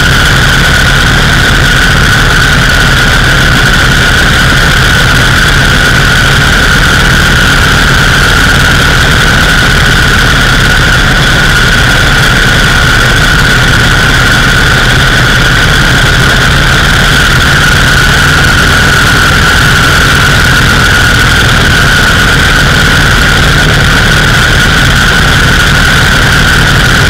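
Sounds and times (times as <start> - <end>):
high-pitched whine: 0.0 - 27.0
motorcycle engine running: 0.0 - 27.0.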